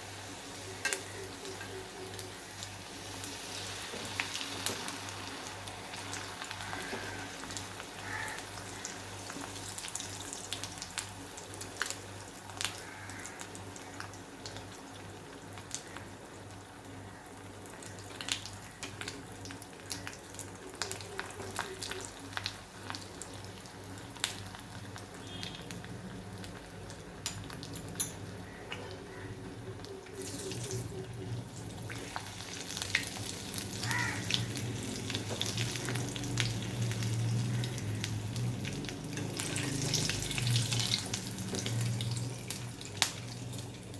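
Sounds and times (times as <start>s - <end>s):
food sizzling in hot oil: 0.0s - 28.3s, 29.2s - 43.9s.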